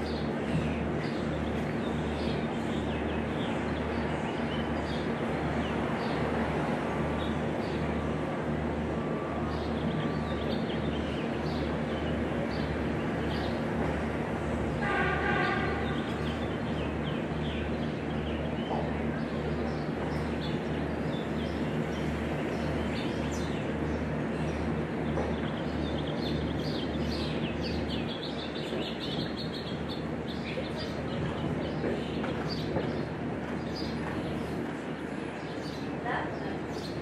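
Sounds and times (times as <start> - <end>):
small birds chirping: 0.0 - 14.6, 15.5 - 37.0.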